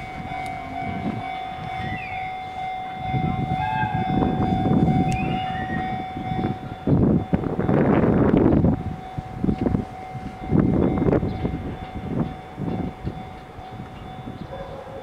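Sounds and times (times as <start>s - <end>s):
crossing alarm steady high tone: 0.0s - 15.0s
freight train rumbling: 0.0s - 15.0s.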